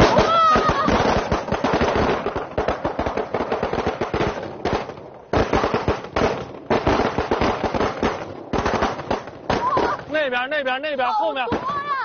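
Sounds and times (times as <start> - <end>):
firecrackers popping: 0.0 - 12.0.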